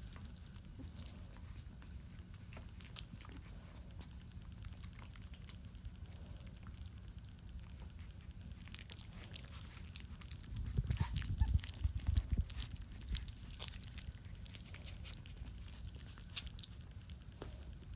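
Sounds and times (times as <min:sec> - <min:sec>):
close-up rustling and soft clicks: 0:00.0 - 0:17.9
steady low rumble: 0:00.0 - 0:17.9.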